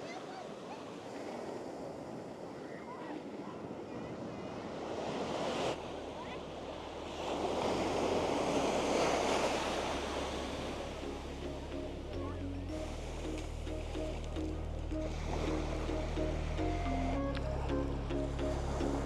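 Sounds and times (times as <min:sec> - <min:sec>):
ocean waves washing ashore: 0:00.0 - 0:19.0.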